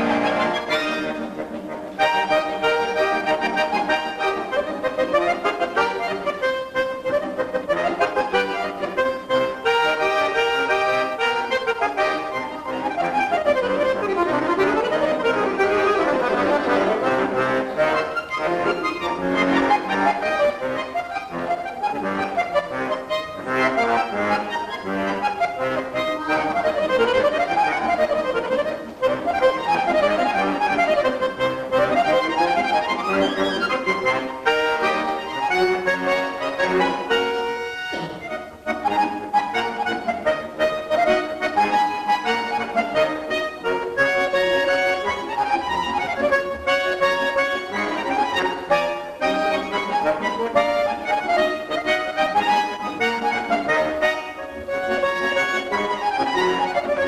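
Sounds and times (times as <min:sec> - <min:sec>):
button accordion playing: 0:00.0 - 0:57.0.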